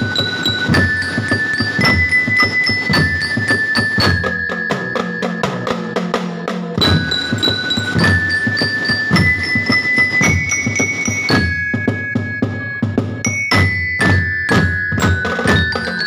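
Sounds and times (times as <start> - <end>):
drum band playing: 0.0 - 16.0
high melody line: 0.0 - 16.0.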